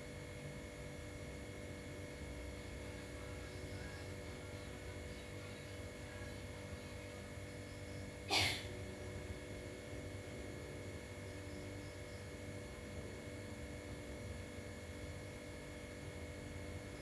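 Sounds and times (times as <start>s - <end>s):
electrical hum with low rumble: 0.0s - 17.0s.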